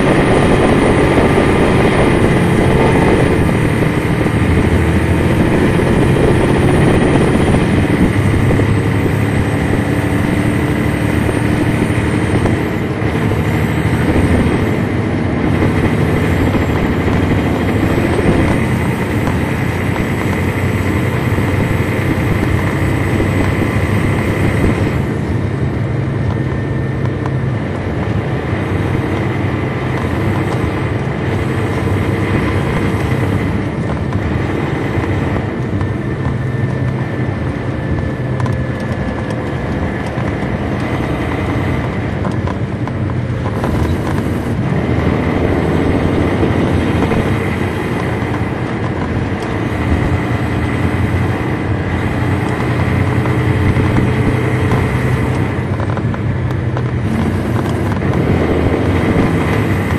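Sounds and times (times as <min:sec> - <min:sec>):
bus diesel engine running: 0:00.0 - 0:59.9
high whine: 0:00.0 - 0:59.9.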